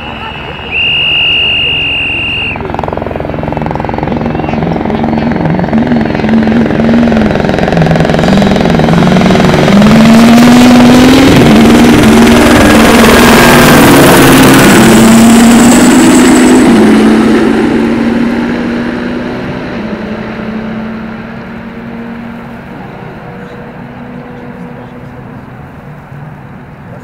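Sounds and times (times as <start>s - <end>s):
rally car engine accelerating: 0.0s - 27.0s.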